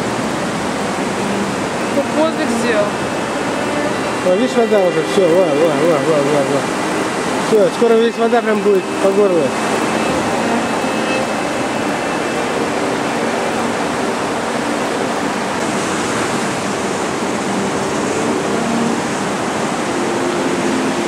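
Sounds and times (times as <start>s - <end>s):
waves breaking on a beach: 0.0s - 21.0s.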